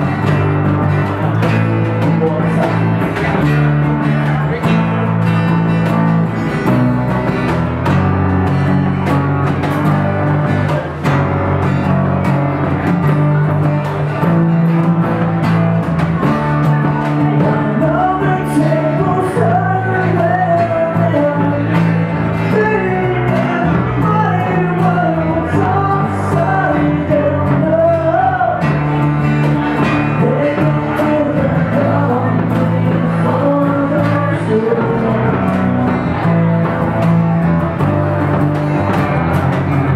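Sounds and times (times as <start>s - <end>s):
lead vocal melody: 0.0s - 39.9s
steady drum beat: 0.0s - 39.9s
strummed acoustic guitars: 0.0s - 39.9s.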